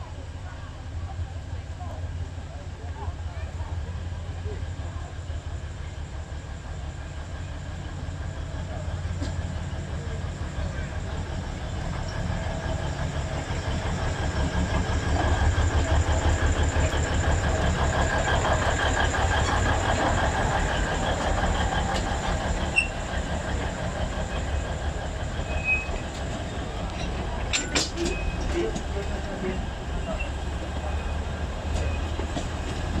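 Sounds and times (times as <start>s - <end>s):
locomotive rumble: 0.0s - 33.0s
train cars rolling over rails: 0.0s - 33.0s.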